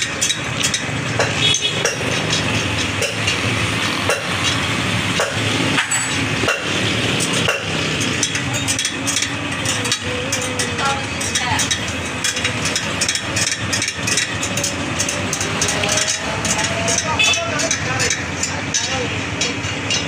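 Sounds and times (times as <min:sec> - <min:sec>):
metal spokes clicking: 0:00.0 - 0:20.0.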